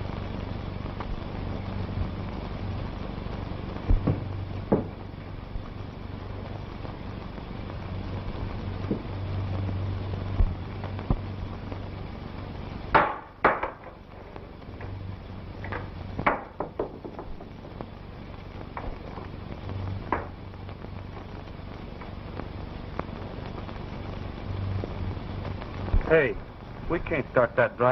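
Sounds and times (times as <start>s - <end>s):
film soundtrack hum and hiss: 0.0s - 27.9s.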